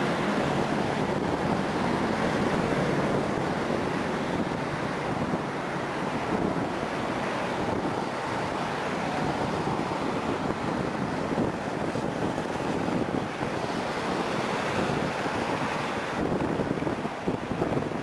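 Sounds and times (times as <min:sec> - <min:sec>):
jet engines rumbling: 0:00.0 - 0:16.9.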